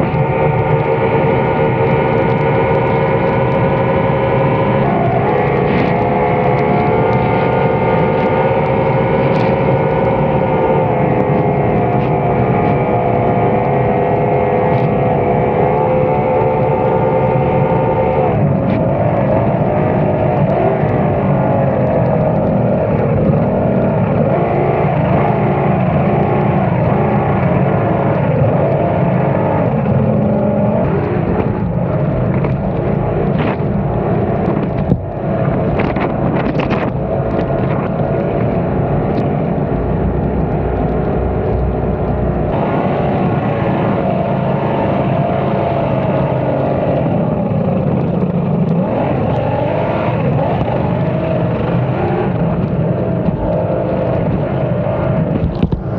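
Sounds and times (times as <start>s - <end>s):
outboard engines running hard: 0.0s - 55.9s.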